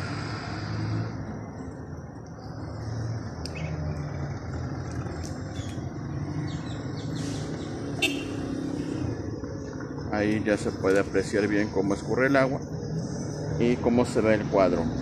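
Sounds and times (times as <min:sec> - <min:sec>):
road traffic: 0:00.0 - 0:15.0
vehicle engine running: 0:00.0 - 0:15.0.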